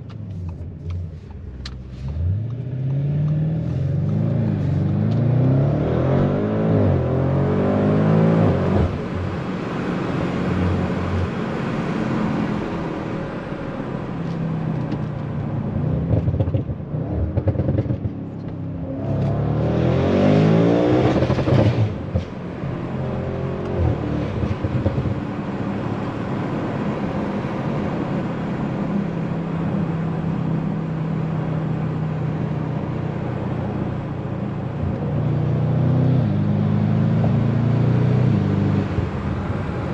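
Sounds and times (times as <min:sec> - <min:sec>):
car engine revving: 0:01.6 - 0:12.9, 0:15.7 - 0:39.9.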